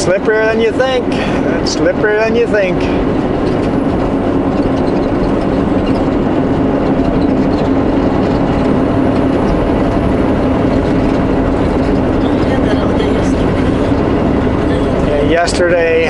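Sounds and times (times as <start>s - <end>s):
constant hum: 0.0s - 16.0s
truck engine and tyre drone: 0.0s - 16.0s.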